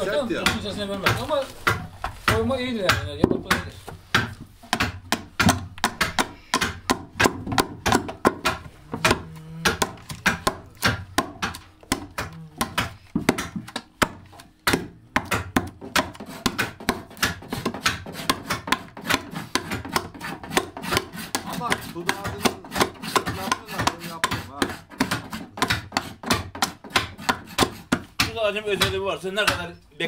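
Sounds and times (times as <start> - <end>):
adze chopping wood: 0.2 - 29.8.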